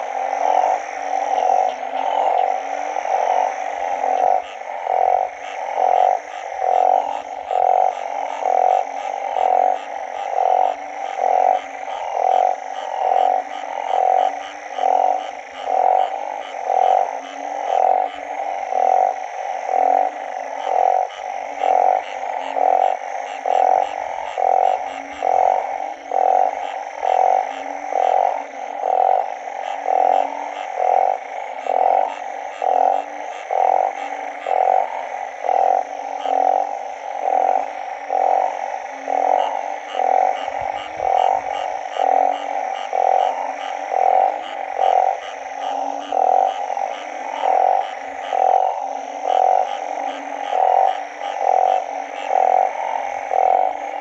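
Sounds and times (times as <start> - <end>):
faint high frog or insect calls: 0.0 - 54.0
frog croaking loudly: 0.0 - 54.0.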